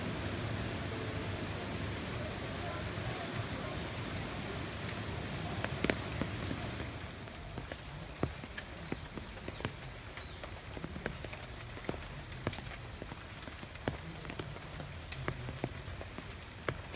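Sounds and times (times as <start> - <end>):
rain falling: 0.0 - 16.9
drops splashing off leaves: 2.6 - 16.4.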